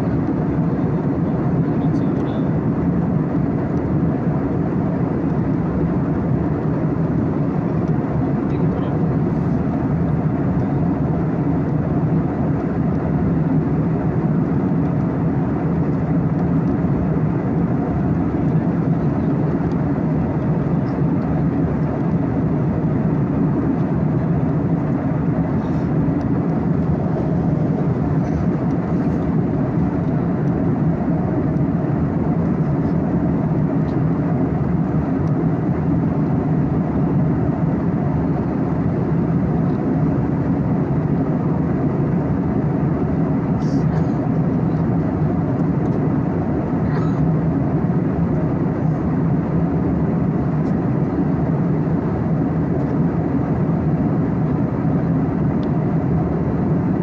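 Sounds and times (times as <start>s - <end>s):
vehicle engine hum: 0.0s - 57.0s.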